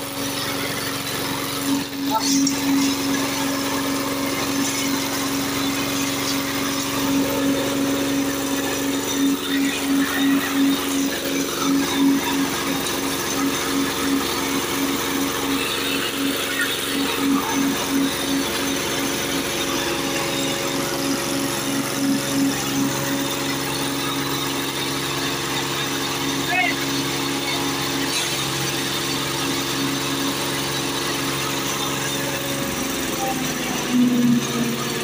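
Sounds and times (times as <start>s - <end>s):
diesel engine humming: 0.0s - 35.0s.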